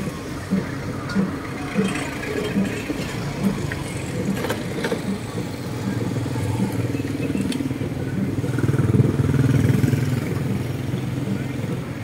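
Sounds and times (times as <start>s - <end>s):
passing vehicle engine hum: 0.0s - 12.0s.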